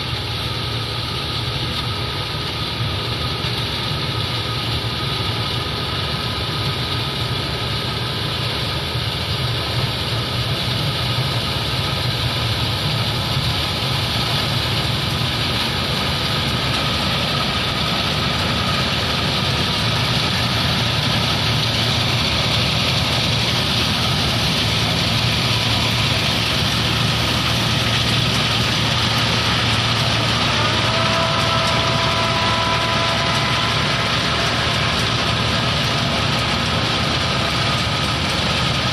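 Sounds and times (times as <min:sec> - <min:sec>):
combine harvester engine hum: 0:00.0 - 0:38.9
high steady whine: 0:00.0 - 0:38.9.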